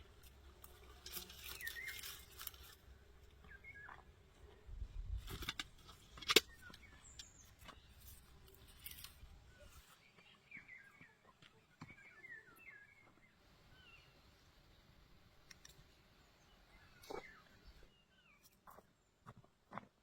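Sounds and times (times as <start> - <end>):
small birds chirping: 0.0 - 19.4.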